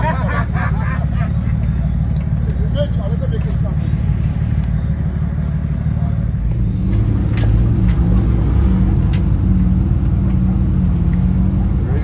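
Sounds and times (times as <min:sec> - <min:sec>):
engine running under load: 0:00.0 - 0:12.0.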